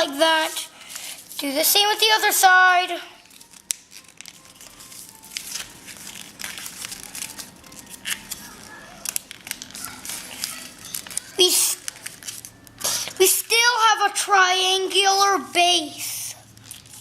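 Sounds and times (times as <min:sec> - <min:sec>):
paper folding and crinkling: 0:00.0 - 0:13.4, 0:15.4 - 0:17.0.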